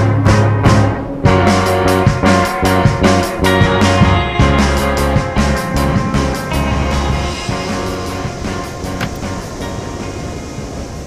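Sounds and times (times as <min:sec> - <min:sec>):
background rock music: 0:00.0 - 0:11.0.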